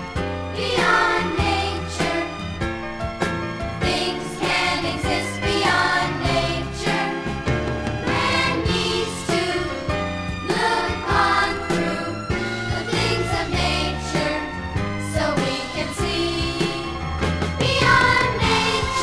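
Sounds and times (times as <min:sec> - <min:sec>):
christian song with steady beat: 0:00.0 - 0:19.0.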